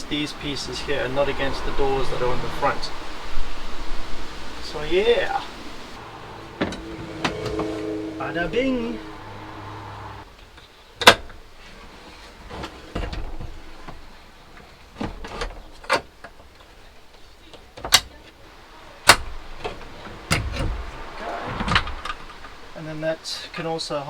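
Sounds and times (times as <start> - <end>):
wood scraping and sliding: 0.0 - 23.8.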